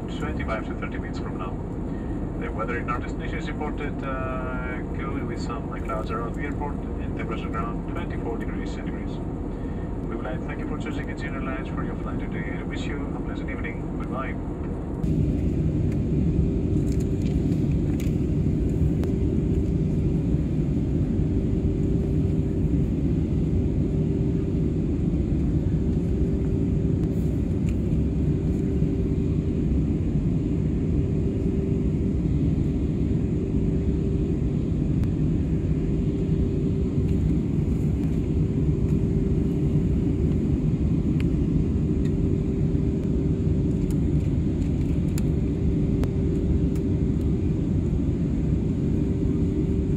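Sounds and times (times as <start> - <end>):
aircraft cabin engine roar: 0.0 - 49.9
constant low hum: 0.0 - 49.9.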